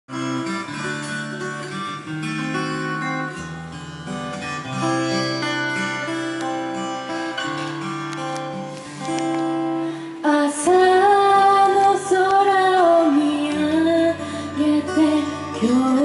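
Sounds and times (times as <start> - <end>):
acoustic guitar playing slowly: 0.1 - 16.0.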